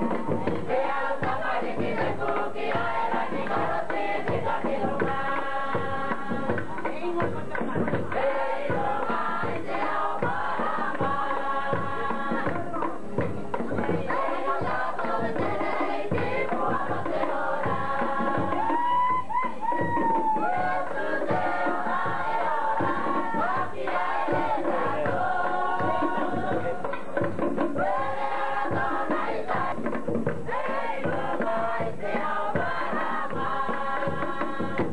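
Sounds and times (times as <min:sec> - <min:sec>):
group singing and chanting: 0:00.0 - 0:34.9
steady drum beat: 0:00.0 - 0:34.9.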